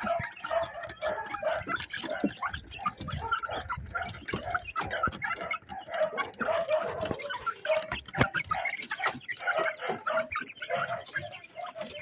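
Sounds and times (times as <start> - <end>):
beaks pecking on board floor: 0.0 - 12.0
hens clucking softly: 0.0 - 12.0.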